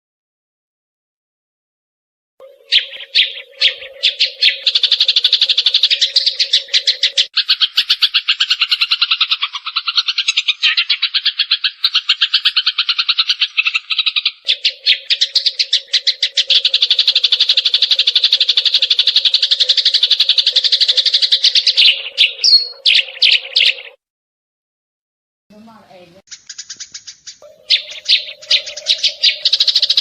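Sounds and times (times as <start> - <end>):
sparrow chirping: 2.4 - 24.0, 26.3 - 30.0.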